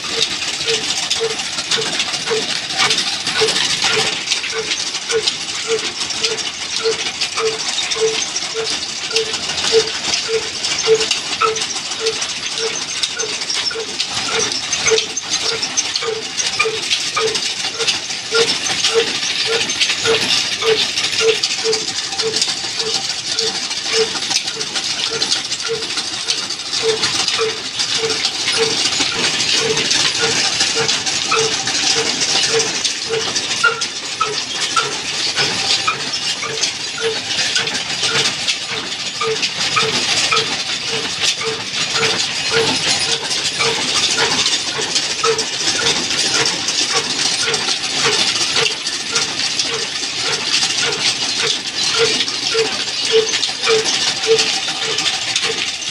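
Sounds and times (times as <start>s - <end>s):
belts and shafting clatter: 0.0s - 55.9s
diesel engine regular beat: 0.0s - 55.9s.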